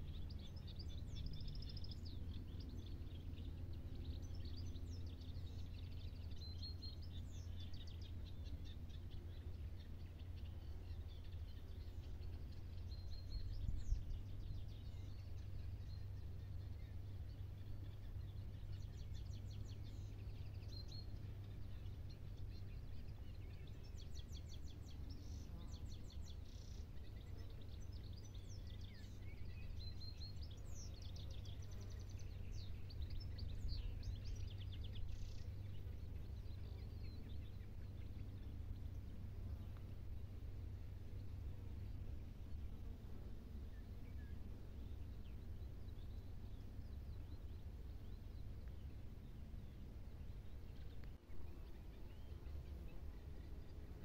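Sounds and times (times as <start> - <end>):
small birds chirping and trilling: 0.0 - 54.0
steady low rumble: 0.0 - 54.0.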